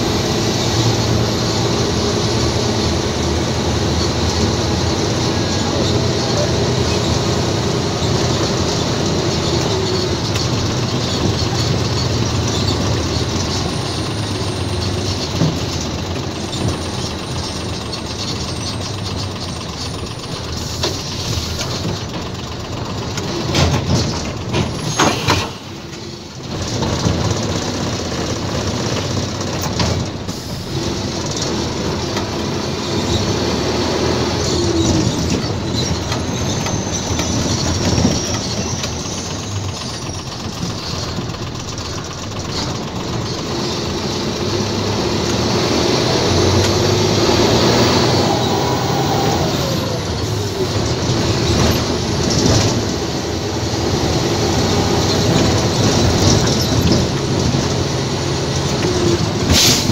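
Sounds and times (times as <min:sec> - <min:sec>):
road and cab noise: 0:00.0 - 0:59.9
truck diesel engine running: 0:00.0 - 0:59.9.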